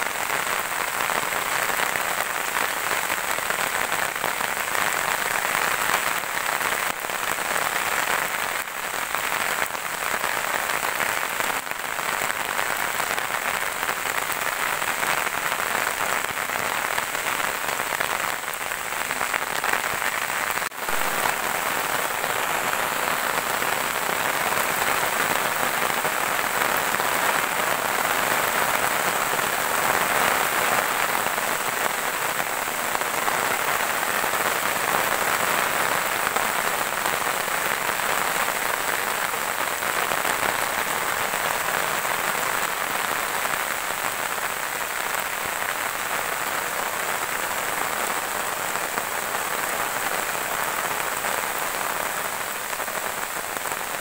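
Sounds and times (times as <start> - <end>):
rain falling on vegetation: 0.0 - 54.0.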